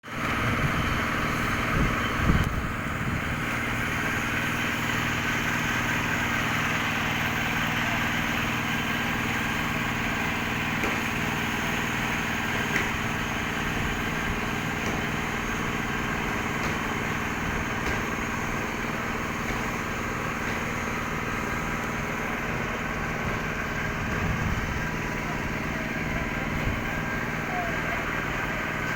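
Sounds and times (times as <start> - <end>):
motor drone: 0.0 - 28.9.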